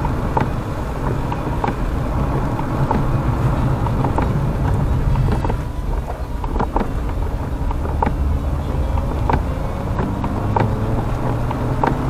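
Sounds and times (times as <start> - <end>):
car road and engine rumble: 0.0 - 12.0
light ticks: 0.0 - 12.0.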